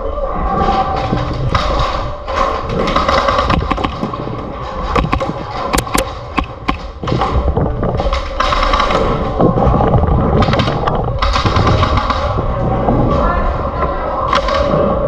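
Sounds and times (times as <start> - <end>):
sharp cracks: 0.5 - 15.0.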